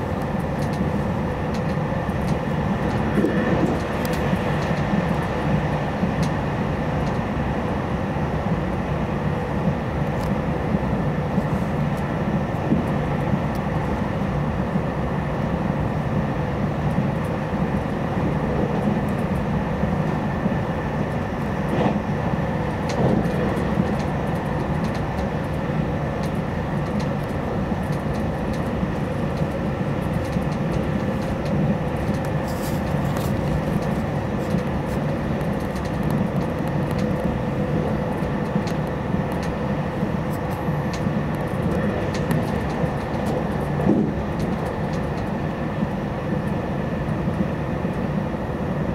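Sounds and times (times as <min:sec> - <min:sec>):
high train hum: 0:00.0 - 0:48.9
wheels rumbling on rail: 0:00.0 - 0:48.9.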